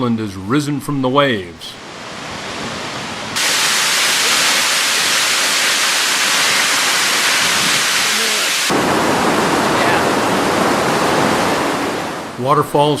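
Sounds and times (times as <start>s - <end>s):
waterfall rushing: 1.8s - 12.4s.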